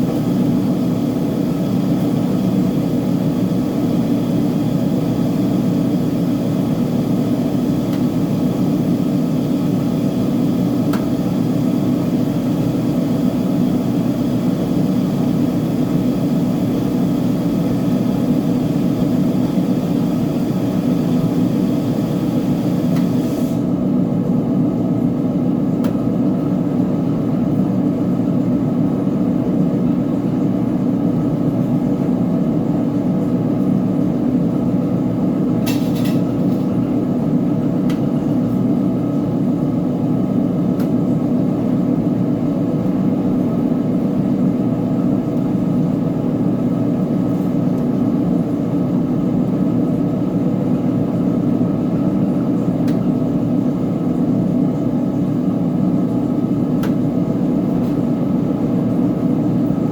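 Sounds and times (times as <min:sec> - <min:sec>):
washing machine rumbling: 0:00.0 - 0:59.9.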